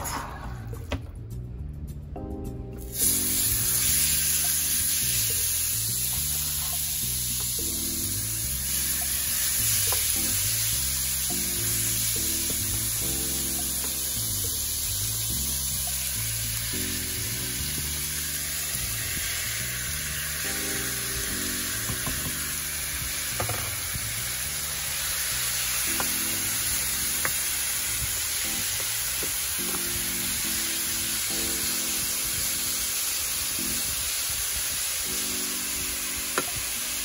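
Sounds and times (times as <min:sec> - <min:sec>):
meat sizzling in oil: 0:02.9 - 0:37.0.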